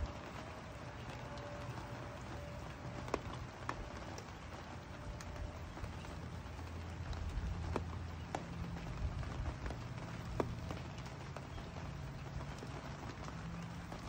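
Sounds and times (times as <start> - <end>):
rain on wooden deck: 0.0 - 14.0
sharp drips: 0.0 - 14.0.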